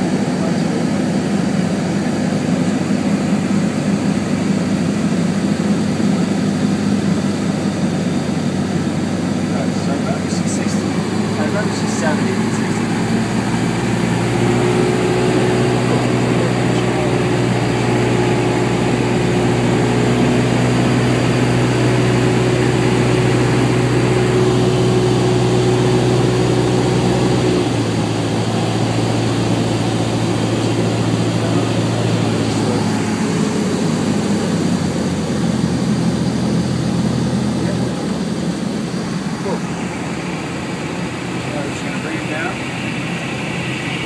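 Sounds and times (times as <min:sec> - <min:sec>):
plane engine and propeller droning: 0:00.0 - 0:44.0.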